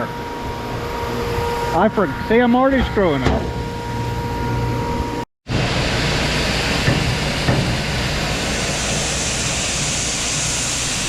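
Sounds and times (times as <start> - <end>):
farm machinery roaring: 0.0 - 11.0.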